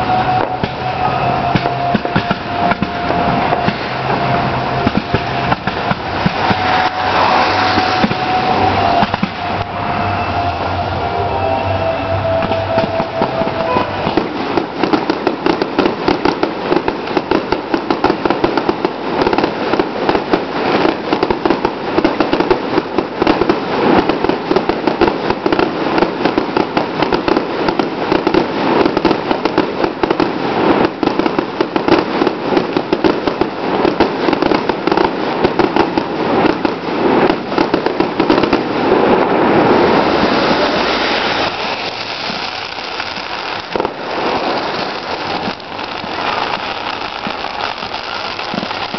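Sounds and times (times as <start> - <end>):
fireworks bangs and crackles: 0.0 - 11.0, 12.4 - 48.9.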